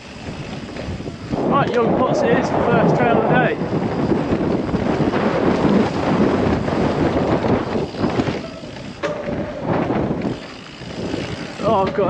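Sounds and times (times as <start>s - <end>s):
bike tyres and frame rattling: 0.0s - 12.0s
wind buffeting microphone: 0.0s - 12.0s.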